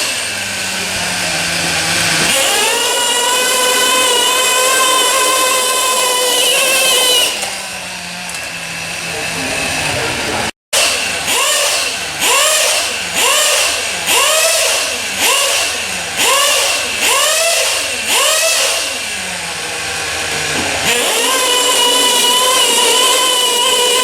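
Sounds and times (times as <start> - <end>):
small engine revving: 0.0 - 24.0.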